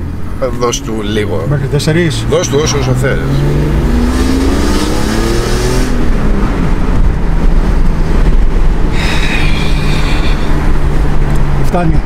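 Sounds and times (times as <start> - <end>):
car engine revving through gears: 0.0 - 11.8.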